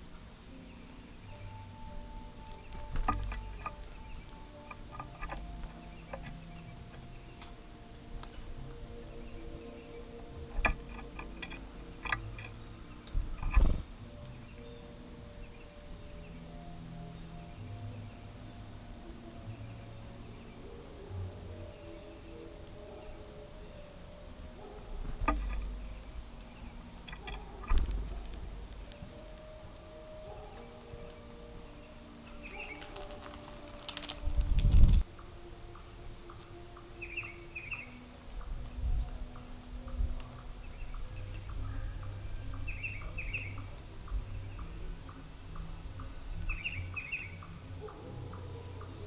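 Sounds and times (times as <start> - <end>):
faint outdoor background: 0.0 - 49.0
small birds chirping: 0.0 - 49.0.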